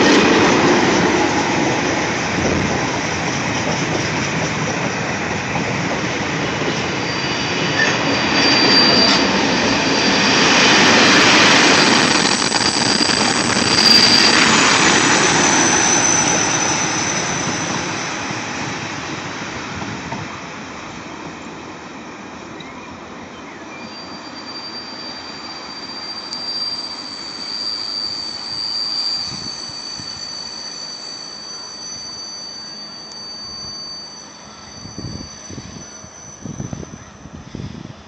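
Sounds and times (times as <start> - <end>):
high wheel squeal: 0.0 - 20.7, 22.5 - 38.0
train wheels rumbling: 0.0 - 38.0.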